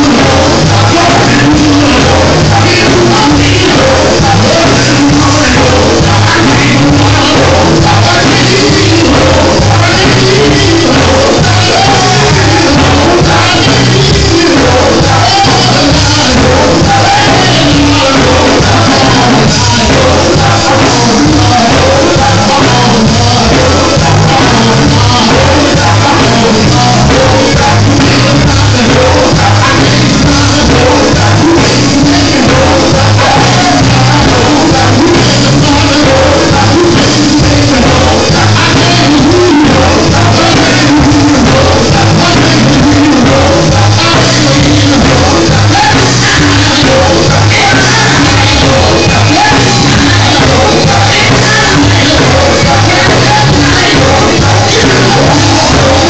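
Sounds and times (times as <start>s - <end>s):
backing voices singing: 0.0s - 56.0s
bass-heavy beat: 0.0s - 56.0s
person singing into a microphone: 0.0s - 56.0s.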